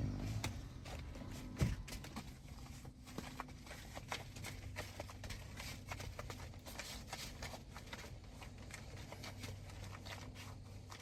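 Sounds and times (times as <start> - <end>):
steady low hum: 0.0 - 11.0
hands rustling and clicking: 0.4 - 11.0.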